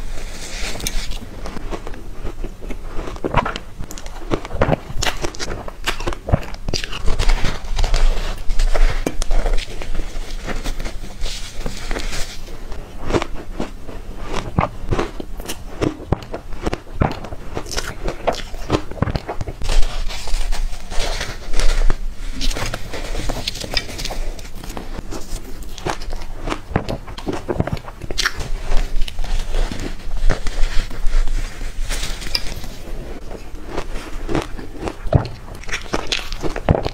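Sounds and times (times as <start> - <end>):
biting and chewing crumbly food: 0.0 - 36.9.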